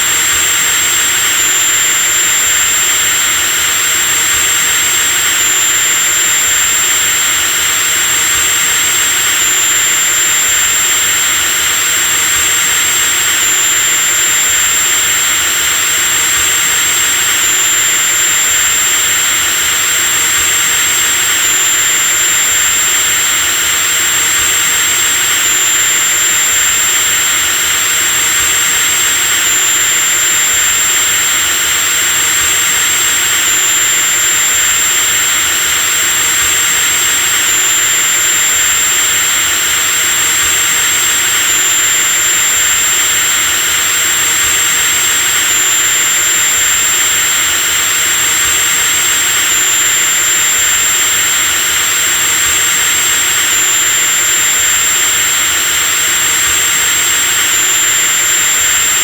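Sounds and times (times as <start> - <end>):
electric drill motor whine: 0.0 - 59.0.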